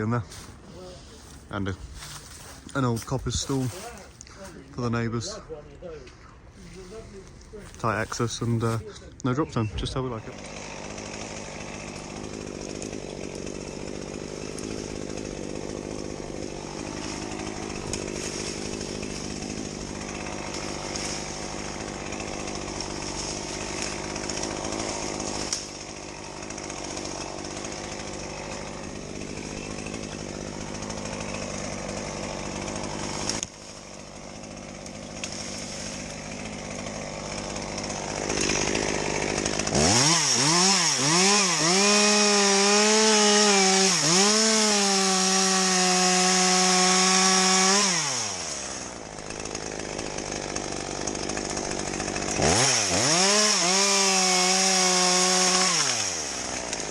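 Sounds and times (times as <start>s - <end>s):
two-stroke chainsaw running and revving: 0.0s - 4.6s, 6.6s - 9.0s, 10.0s - 56.9s.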